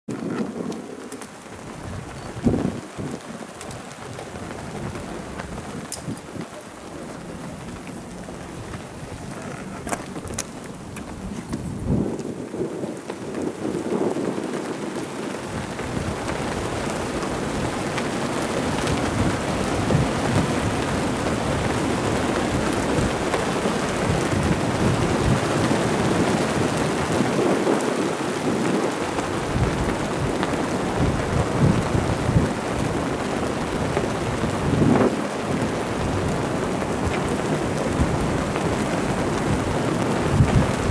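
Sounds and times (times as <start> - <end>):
wind blowing across microphone: 0.1 - 40.9.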